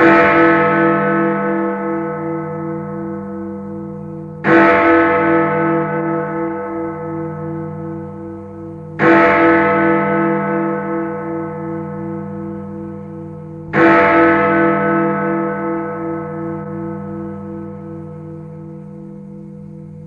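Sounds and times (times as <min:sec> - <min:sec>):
large bell ringing: 0:00.0 - 0:20.0.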